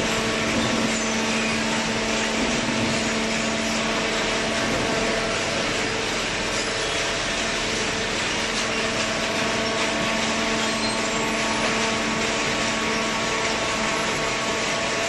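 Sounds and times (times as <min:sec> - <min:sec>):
hydraulic motor and pump humming: 0:00.0 - 0:15.0.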